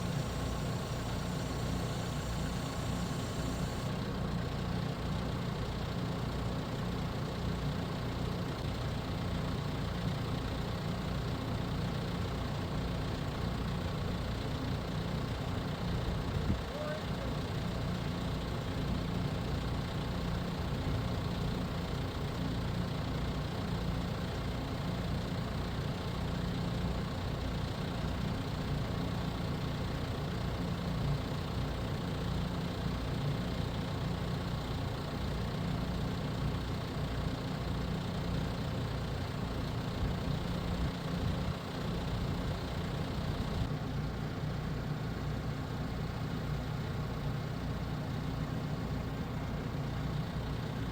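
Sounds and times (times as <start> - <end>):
farm machinery engine idling: 0.0 - 50.9.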